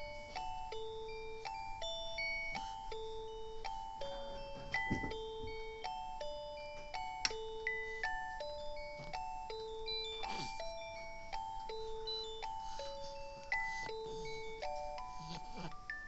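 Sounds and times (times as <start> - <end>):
chiming bell-like melody: 0.0 - 16.0.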